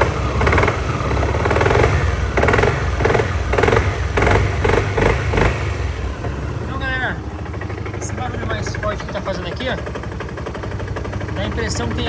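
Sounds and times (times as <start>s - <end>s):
rhythmic mechanical knocking: 0.0s - 12.0s
scooter engine idling: 0.0s - 12.0s.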